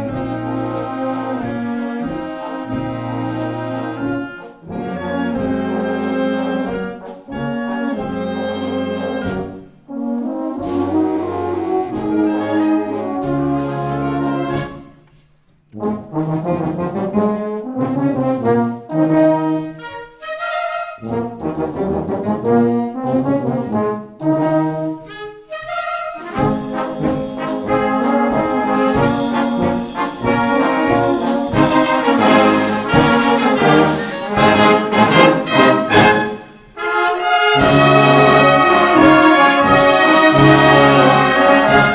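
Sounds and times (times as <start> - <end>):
brass wind band playing: 0.0 - 15.1, 15.7 - 41.9.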